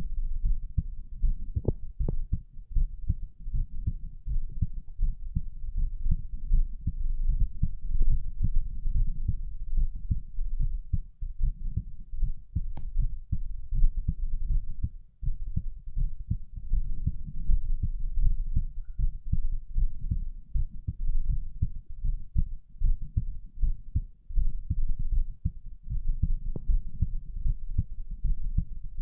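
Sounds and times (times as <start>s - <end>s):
heartbeat thumps: 0.0s - 29.0s
low rumble: 0.0s - 29.0s.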